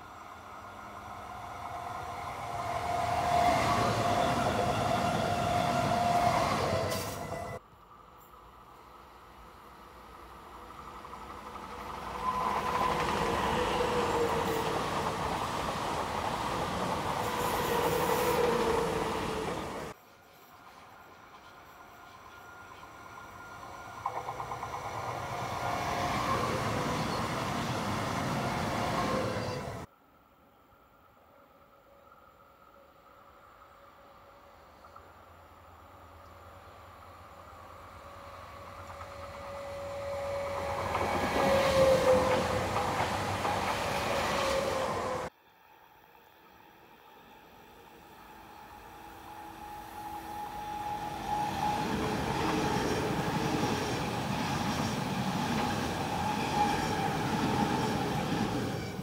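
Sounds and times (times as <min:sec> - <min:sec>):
train passing at speed: 0:00.0 - 0:59.0.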